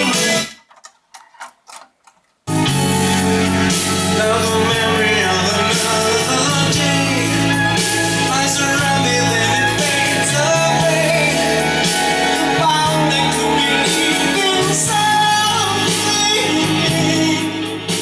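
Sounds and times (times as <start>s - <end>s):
song played from cassette: 0.0s - 0.6s, 2.5s - 18.0s.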